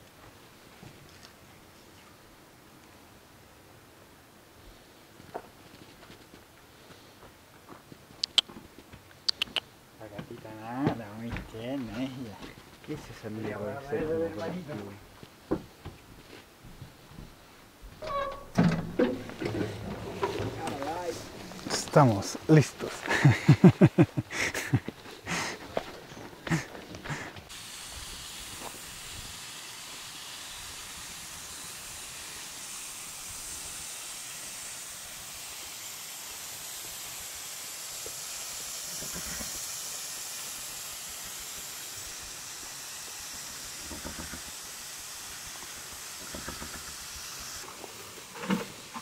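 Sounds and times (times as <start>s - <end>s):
steady hissing noise: 0.0s - 49.0s.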